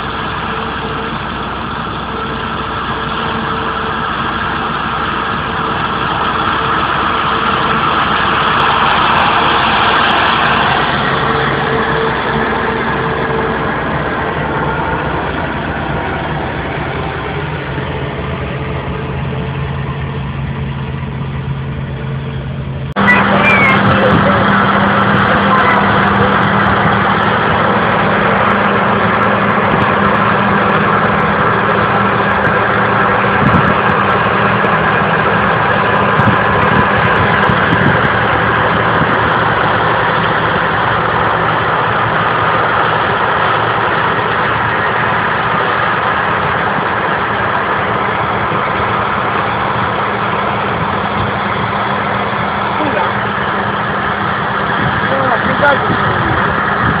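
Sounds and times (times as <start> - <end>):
combine harvester drone: 0.0 - 57.0
constant low hum: 0.0 - 57.0.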